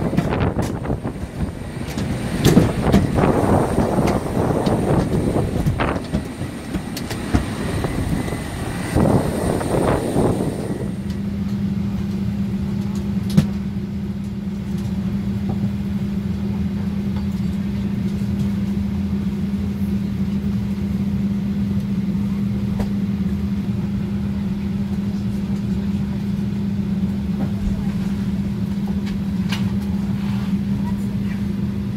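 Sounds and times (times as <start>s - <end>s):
vehicle engine drone: 0.0s - 31.9s.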